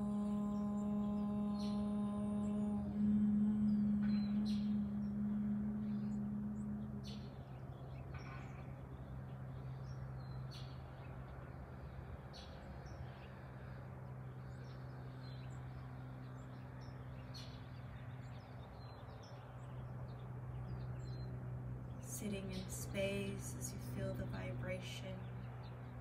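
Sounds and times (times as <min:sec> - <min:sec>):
steady low hum: 0:00.0 - 0:26.0
small birds chirping: 0:03.5 - 0:26.0.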